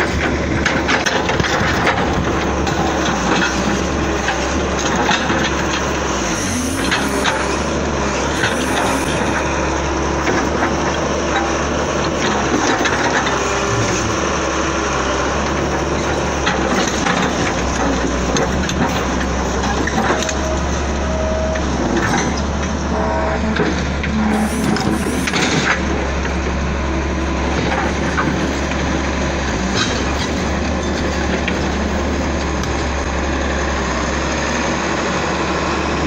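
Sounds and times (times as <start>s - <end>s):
machinery clanks and knocks: 0.0s - 33.1s
excavator diesel engine running: 0.0s - 36.0s.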